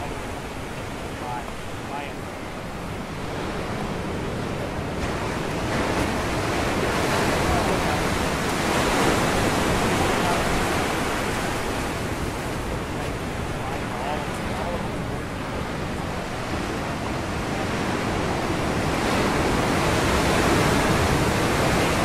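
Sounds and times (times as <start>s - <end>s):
surf breaking on rocks: 3.3s - 22.0s.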